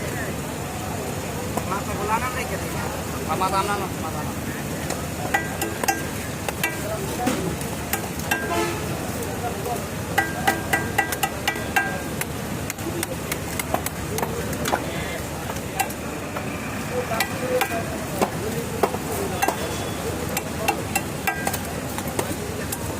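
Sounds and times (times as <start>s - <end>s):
voices: 0.0s - 22.9s.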